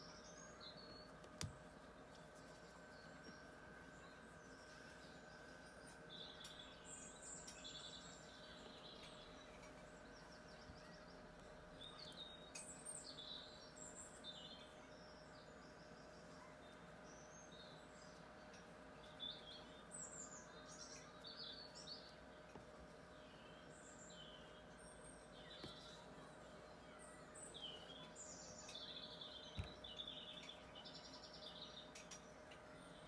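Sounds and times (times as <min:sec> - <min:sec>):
faint steady hum: 0:00.0 - 0:33.0
small birds chirping and trilling: 0:00.0 - 0:33.0.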